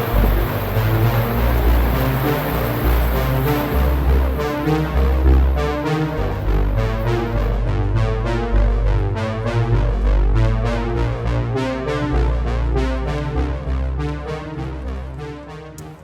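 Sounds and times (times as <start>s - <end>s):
electronic music with synthesizer: 0.0s - 16.0s.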